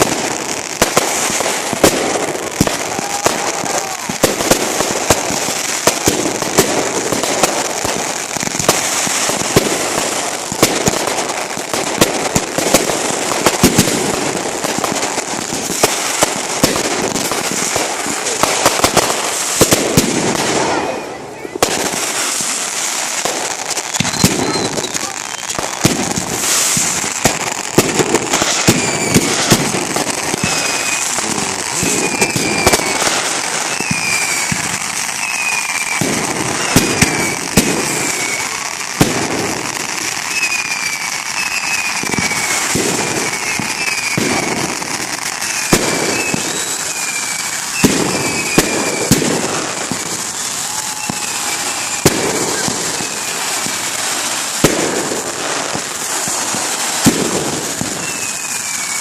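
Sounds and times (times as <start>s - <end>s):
firework falling whistles: 0.0s - 11.2s, 12.1s - 59.0s
fireworks crackling and banging: 0.0s - 59.0s.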